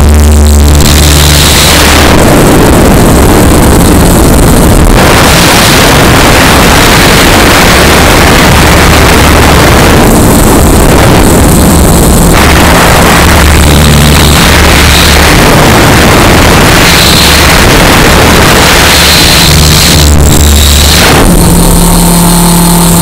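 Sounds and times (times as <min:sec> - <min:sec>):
wind and rotor-wash noise: 0:00.0 - 0:23.0
rc helicopter motor humming: 0:00.9 - 0:23.0.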